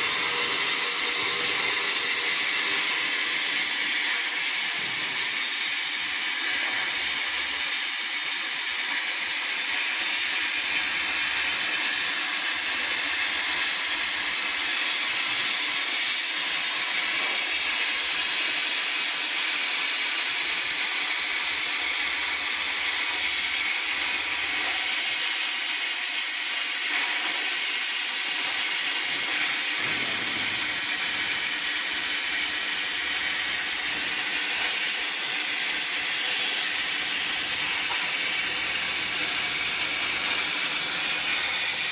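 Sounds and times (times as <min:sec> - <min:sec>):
plasma cutting torch hissing: 0:00.0 - 0:41.9.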